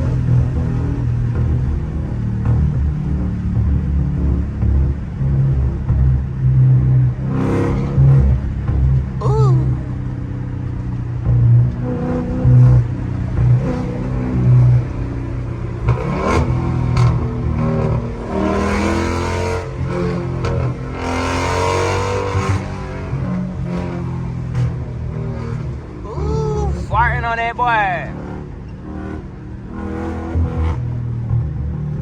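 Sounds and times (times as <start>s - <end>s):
music playing: 0.0s - 28.4s
car engine revving: 0.0s - 32.0s.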